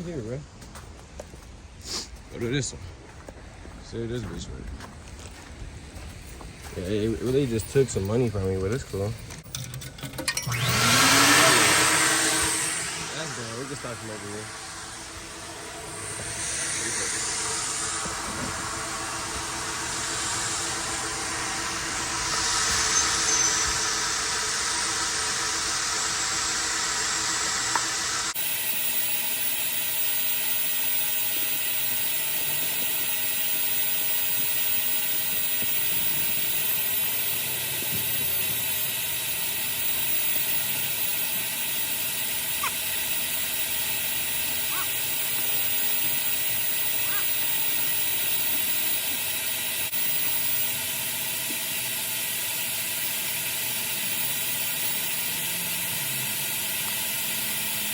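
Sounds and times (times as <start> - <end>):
vacuum rushing air and whine: 3.3 - 57.9.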